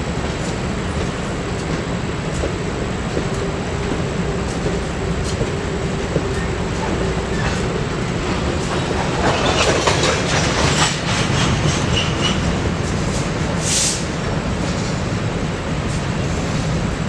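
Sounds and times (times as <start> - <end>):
freight train rolling past: 0.0 - 17.0
wheels clacking over rail joints: 0.2 - 16.8.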